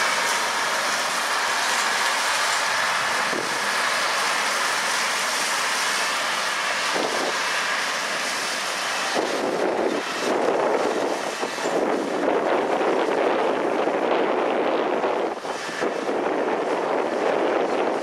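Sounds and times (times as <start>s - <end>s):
wind buffeting microphone: 0.0s - 7.8s, 8.4s - 18.0s
tractor engine and implement: 0.0s - 18.0s.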